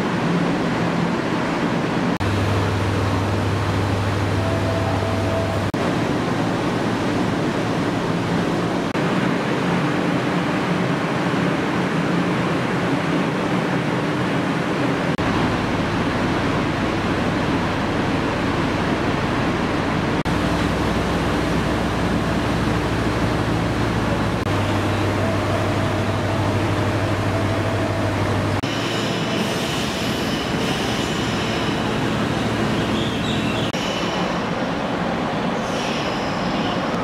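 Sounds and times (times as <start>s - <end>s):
electric train hiss and hum: 2.2s - 10.7s, 15.2s - 37.0s.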